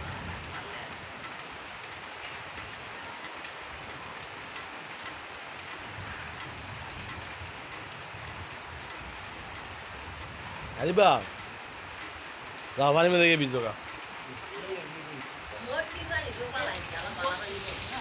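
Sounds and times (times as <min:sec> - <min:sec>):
rain on wet ground: 0:00.0 - 0:18.0.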